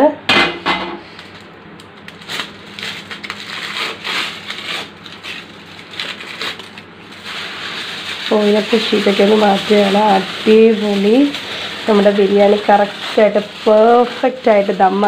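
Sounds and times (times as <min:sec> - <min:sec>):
aluminium foil crinkling: 0:01.0 - 0:15.0.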